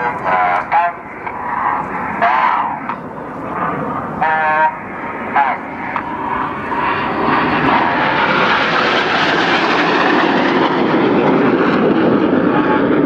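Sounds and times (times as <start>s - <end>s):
low-flying jets roaring: 0.0s - 13.0s.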